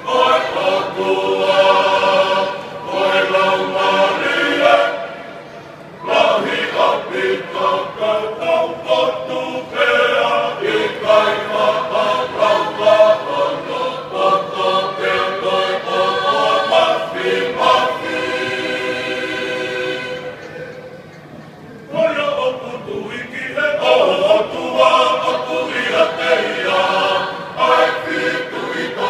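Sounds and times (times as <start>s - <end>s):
church choir singing: 0.0s - 20.6s, 21.9s - 29.0s.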